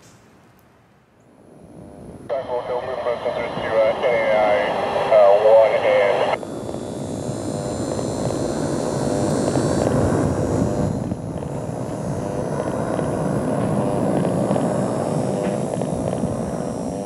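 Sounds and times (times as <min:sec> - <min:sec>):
thin high whine: 0:01.2 - 0:17.0
turboprop engines droning: 0:01.2 - 0:17.0.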